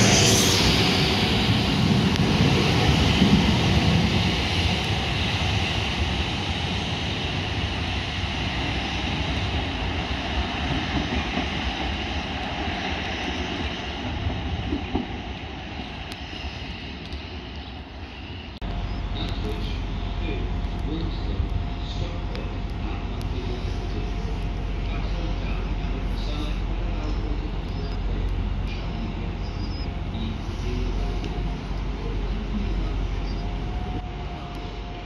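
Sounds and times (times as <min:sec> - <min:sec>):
diesel train pulling away: 0:00.0 - 0:35.0.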